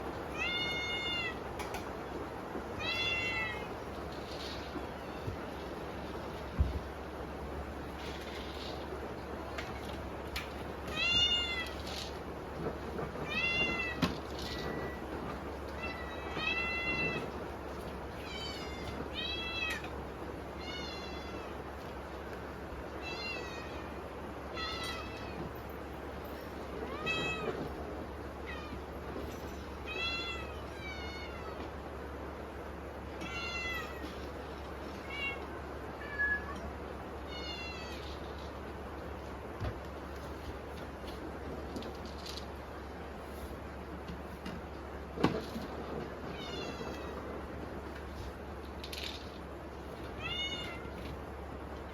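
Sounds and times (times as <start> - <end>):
rain hissing: 0.0 - 51.9.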